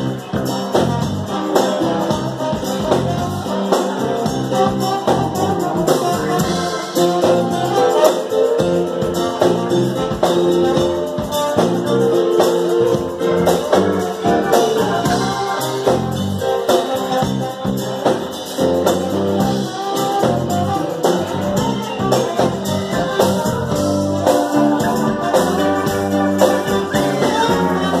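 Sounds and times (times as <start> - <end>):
electric guitar: 0.0 - 28.0
live band music: 0.0 - 28.0
steady drum beat: 0.0 - 28.0.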